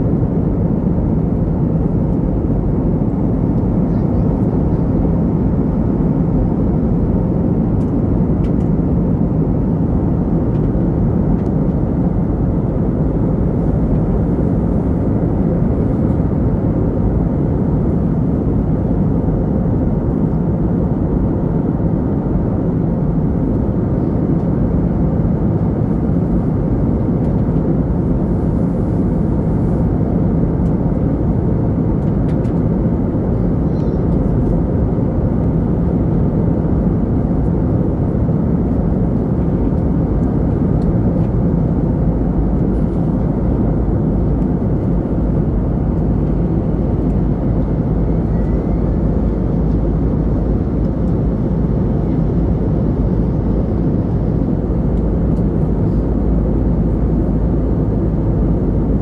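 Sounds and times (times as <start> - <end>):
airliner cabin engine noise: 0.0 - 59.0.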